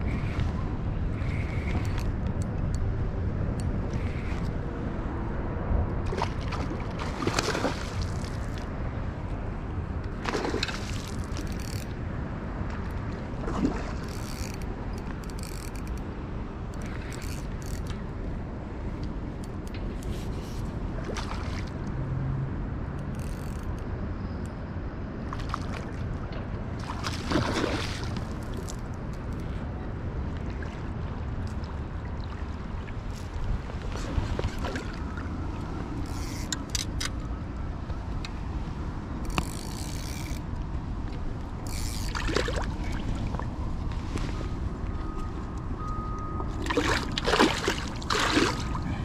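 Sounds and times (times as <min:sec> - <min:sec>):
wind rumble on microphone: 0:00.0 - 0:49.0.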